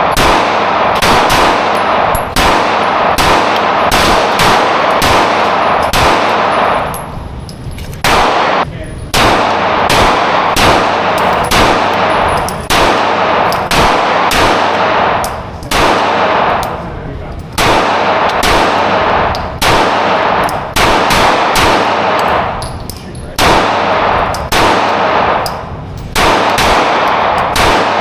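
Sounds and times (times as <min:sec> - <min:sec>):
rifle shots echoing: 0:00.0 - 0:28.0.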